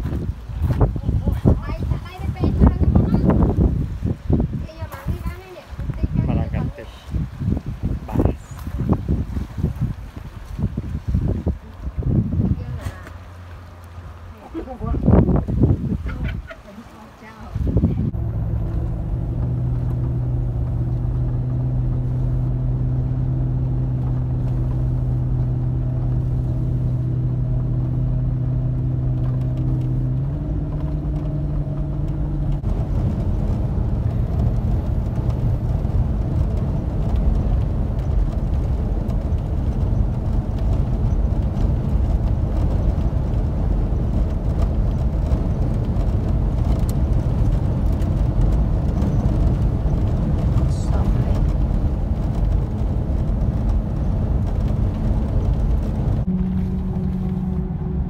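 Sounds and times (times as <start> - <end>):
car engine hum: 0.0 - 58.0
tyre and road rumble: 0.0 - 58.0.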